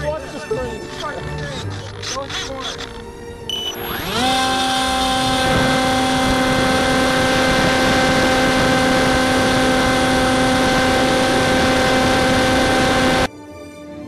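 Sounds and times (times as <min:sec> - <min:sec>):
electric motor and propeller whine: 0:00.0 - 0:13.3.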